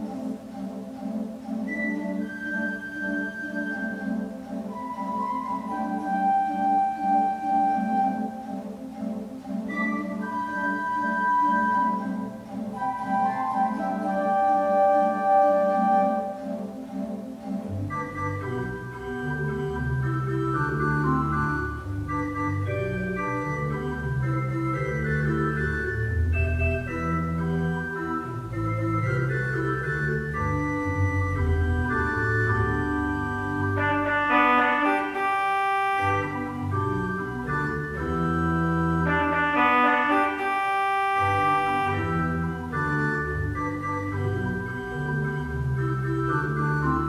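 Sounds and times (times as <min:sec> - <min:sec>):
organ chords: 0:00.0 - 0:47.0.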